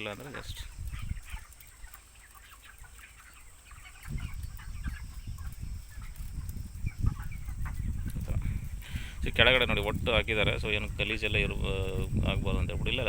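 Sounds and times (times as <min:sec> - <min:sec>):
chickens clucking: 0:00.0 - 0:13.0
wind rumble on microphone: 0:00.4 - 0:02.0, 0:03.7 - 0:13.0.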